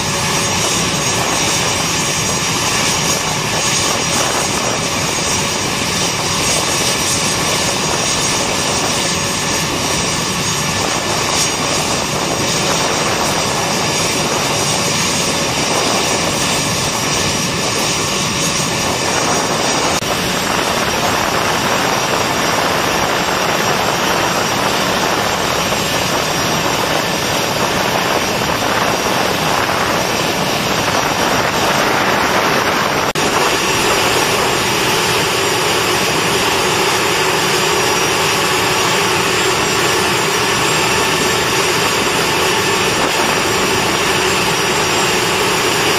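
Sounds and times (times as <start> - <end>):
jet engine rush with whine: 0.0 - 45.9.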